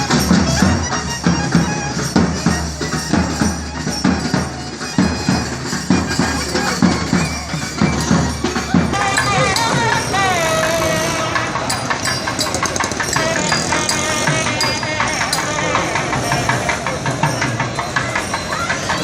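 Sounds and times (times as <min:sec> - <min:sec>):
quick drum strokes: 0:00.0 - 0:19.0
reedy wind instrument held notes: 0:00.0 - 0:19.0.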